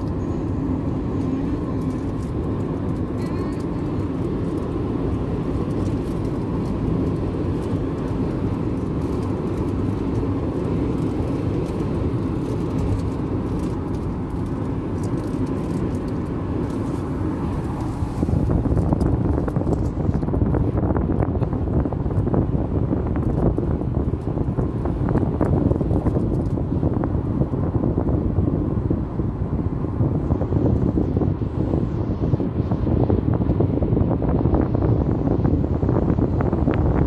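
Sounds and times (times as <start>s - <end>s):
car road and engine noise: 0.0s - 37.0s.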